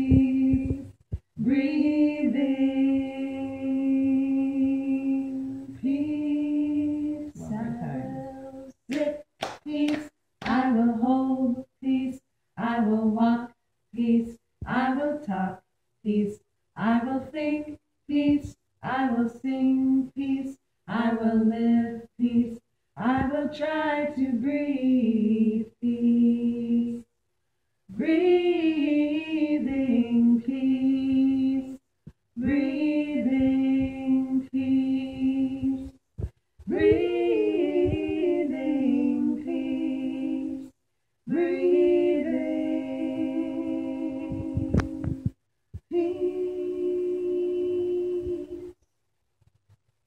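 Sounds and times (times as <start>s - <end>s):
women singing a chant: 0.0s - 27.1s, 27.9s - 48.8s.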